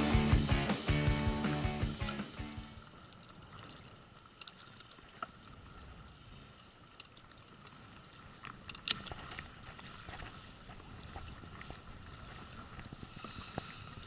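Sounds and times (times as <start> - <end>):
water lapping: 1.3 - 14.0.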